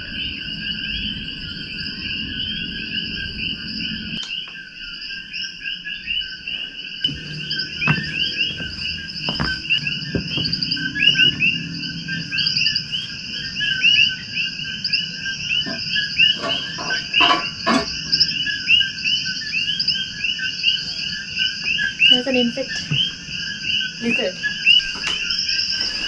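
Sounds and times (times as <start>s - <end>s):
frogs chirping: 0.0s - 26.0s.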